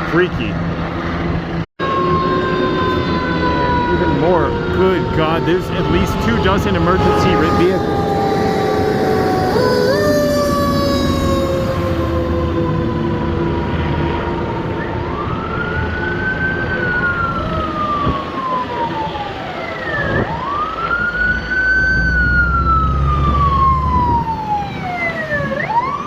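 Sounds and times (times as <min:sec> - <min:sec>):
emergency siren wailing: 0:00.7 - 0:26.0.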